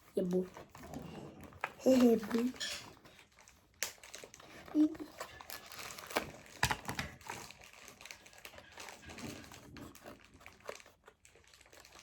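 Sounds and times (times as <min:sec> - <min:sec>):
plastic packaging crinkling: 0:00.1 - 0:12.0.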